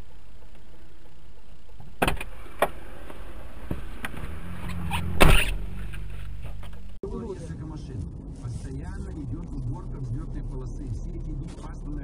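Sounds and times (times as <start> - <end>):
car engine and road hum: 0.0 - 12.0.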